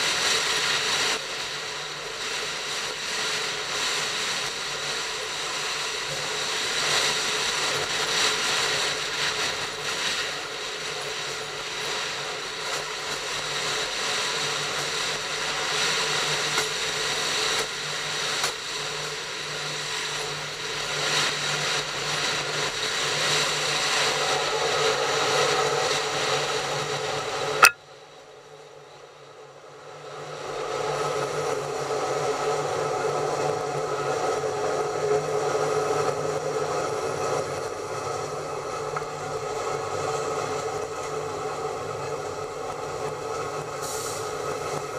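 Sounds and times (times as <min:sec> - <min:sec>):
train running on track: 0:00.0 - 0:44.9.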